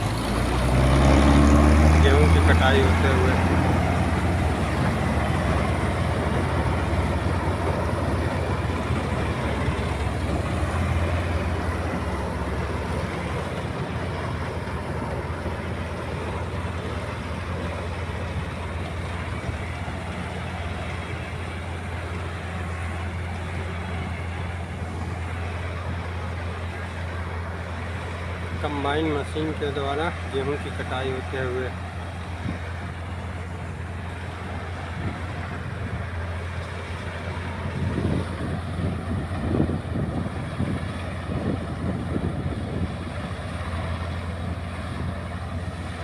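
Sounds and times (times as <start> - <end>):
combine harvester running: 0.0 - 46.0.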